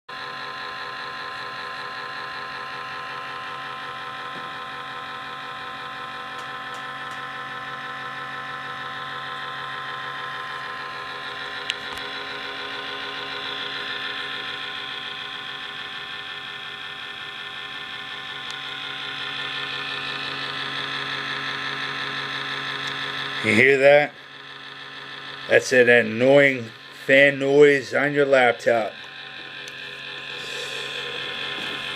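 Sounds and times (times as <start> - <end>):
laptop fan whirring: 0.1 - 31.9.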